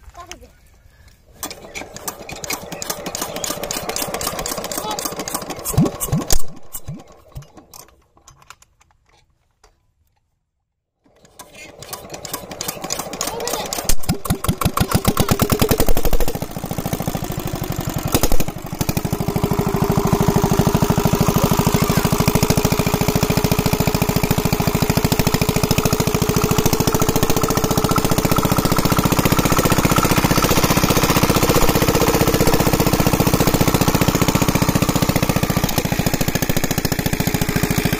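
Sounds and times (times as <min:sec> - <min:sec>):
small diesel pump engine running: 0:01.3 - 0:07.9, 0:11.1 - 0:37.9.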